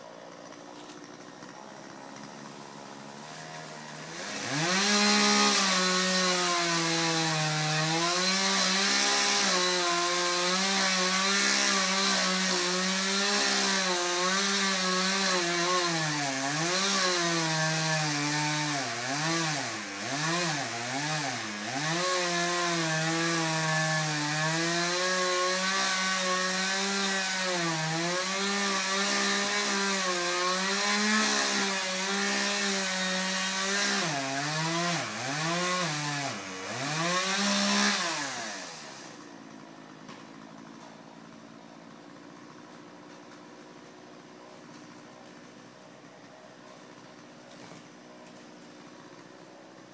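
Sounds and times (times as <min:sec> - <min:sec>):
chainsaw cutting through tree: 0:00.0 - 0:49.9.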